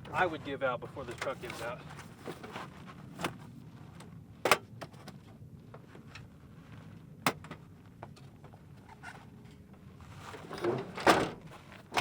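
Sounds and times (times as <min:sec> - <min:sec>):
faint low rumble: 0:00.0 - 0:12.0.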